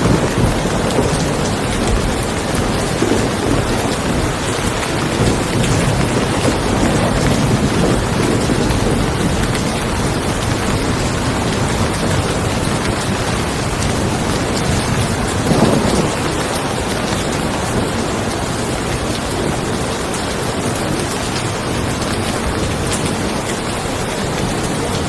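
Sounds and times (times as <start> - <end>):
rain falling on a car: 0.0 - 25.0
thunder rumbling: 0.0 - 25.0.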